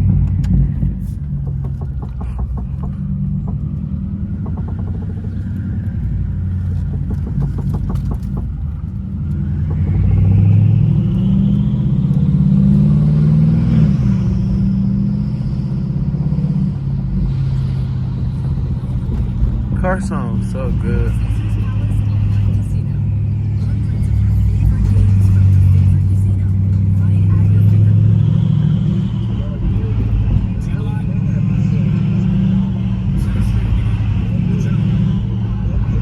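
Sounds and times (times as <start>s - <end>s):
car exhaust deep rumble: 0.0s - 36.0s
rising engine whine: 0.0s - 36.0s.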